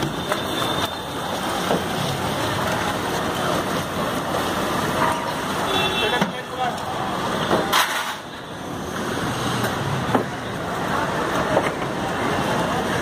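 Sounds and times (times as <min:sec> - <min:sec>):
moving water: 0:00.0 - 0:13.0
traffic: 0:00.0 - 0:13.0.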